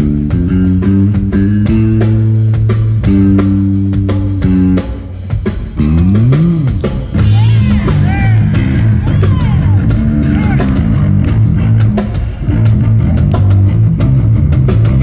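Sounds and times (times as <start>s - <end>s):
electric bass guitar solo: 0.0s - 15.0s.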